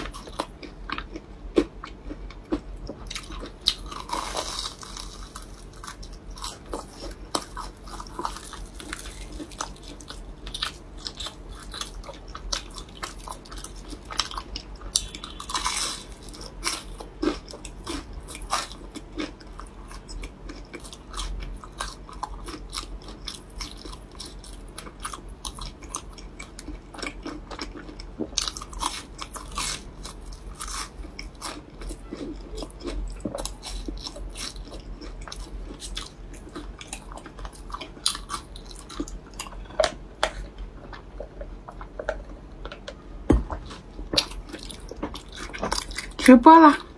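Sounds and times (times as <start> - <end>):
fried crust crunching: 0.0 - 43.0
mouth chewing: 0.0 - 43.0.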